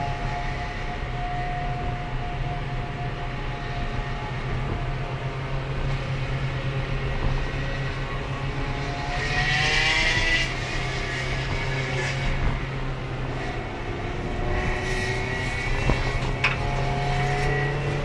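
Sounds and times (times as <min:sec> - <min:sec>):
road noise: 0:00.0 - 0:18.0
race car engine running: 0:02.8 - 0:18.0.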